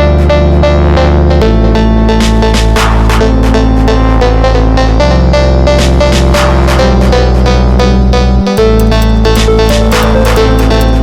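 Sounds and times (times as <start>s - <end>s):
deep bass: 0.0s - 11.0s
repeating synth notes: 0.0s - 11.0s.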